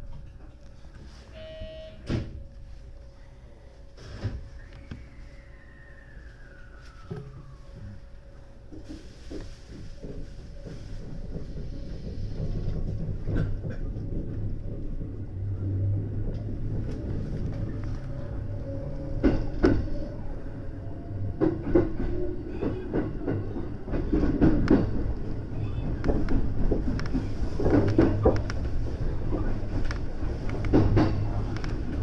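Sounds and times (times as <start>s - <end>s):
train running rumble: 0.0s - 32.0s.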